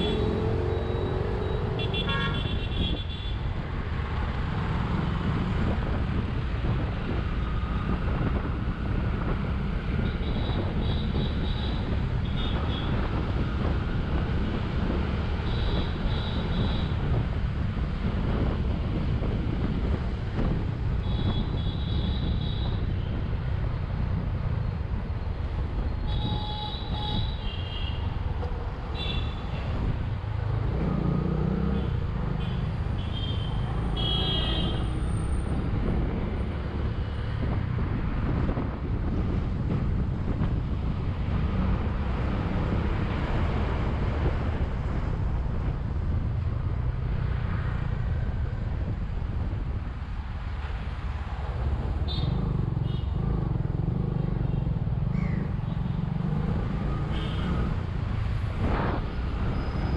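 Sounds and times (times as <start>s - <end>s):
wind on microphone: 2.5s - 27.4s, 34.4s - 59.9s.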